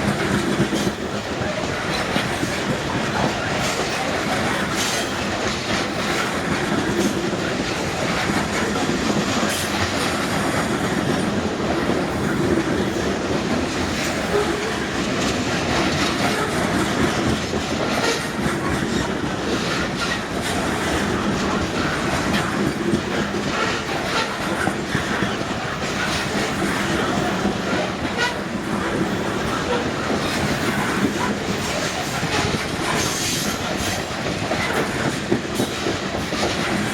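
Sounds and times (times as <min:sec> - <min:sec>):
freight train wheels rumbling: 0:00.0 - 0:36.9
wheels clicking over rail joints: 0:00.0 - 0:36.9.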